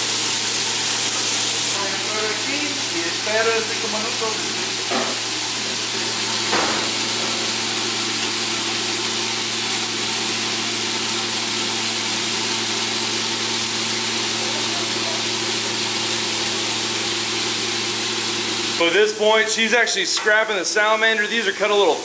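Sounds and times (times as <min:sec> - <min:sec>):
fish sizzling on griddle: 0:00.0 - 0:22.0.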